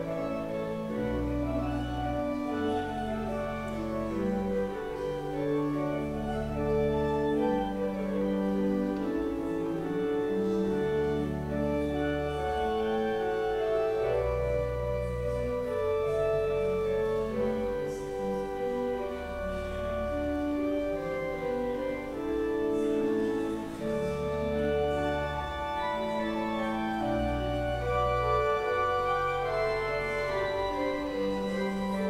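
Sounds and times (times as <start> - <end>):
organ playing held chords: 0.0 - 32.0.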